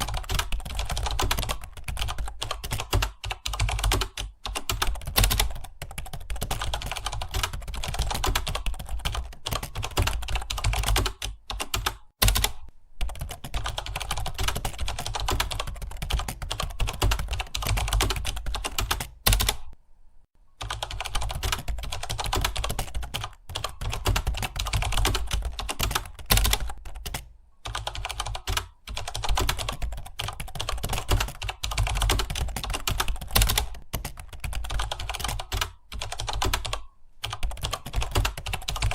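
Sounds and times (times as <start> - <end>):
fast typing on keyboard: 0.0 - 19.8, 20.6 - 38.9.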